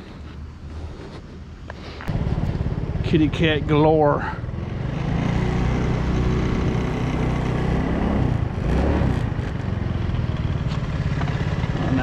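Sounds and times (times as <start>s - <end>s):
truck engine running: 2.1s - 12.0s.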